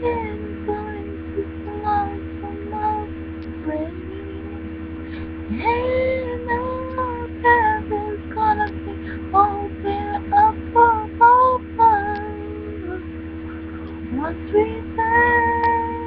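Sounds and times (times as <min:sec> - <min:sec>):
woman singing unaccompanied: 0:00.0 - 0:04.7, 0:05.5 - 0:13.1, 0:14.0 - 0:16.0
electrical hum: 0:00.0 - 0:16.0.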